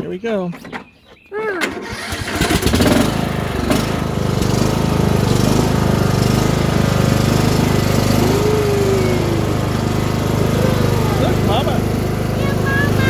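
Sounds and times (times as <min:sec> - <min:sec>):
riding mower engine running: 0:01.6 - 0:13.0.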